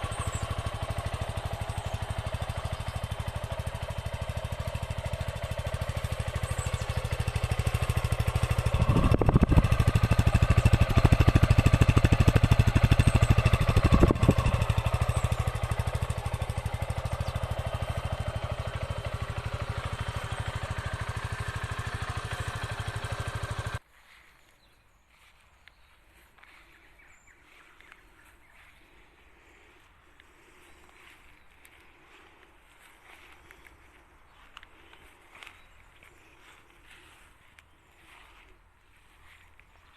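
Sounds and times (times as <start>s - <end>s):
motorcycle engine idling: 0.0s - 23.8s, 25.1s - 39.9s.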